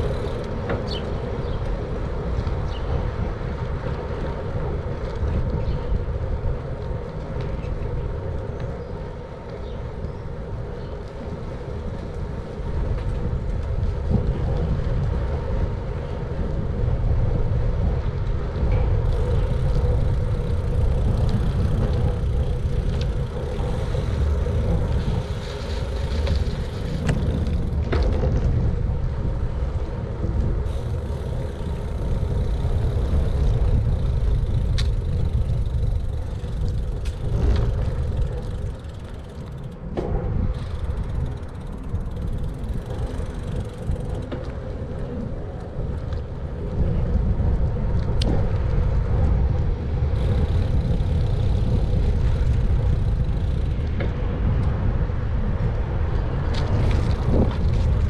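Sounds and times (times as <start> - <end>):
bicycle tyres rolling on pavement: 0.0 - 58.0
wind noise on microphone: 0.0 - 58.0.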